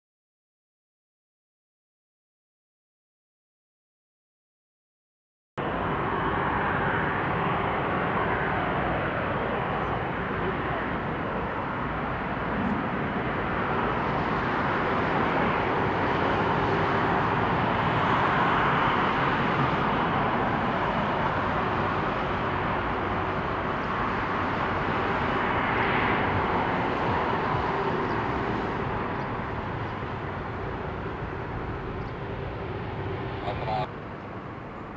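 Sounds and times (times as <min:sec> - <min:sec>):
jet engines rushing and humming: 0:05.6 - 0:34.9.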